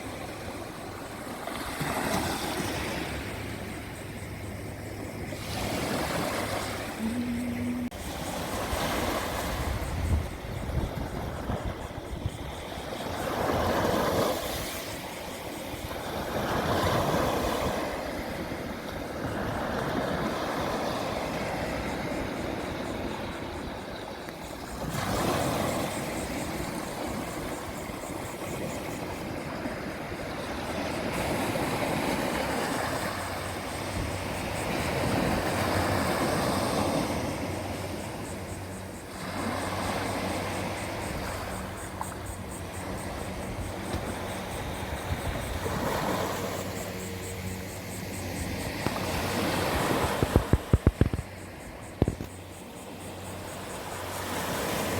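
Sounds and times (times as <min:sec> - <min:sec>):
waves breaking: 0:00.0 - 0:54.9.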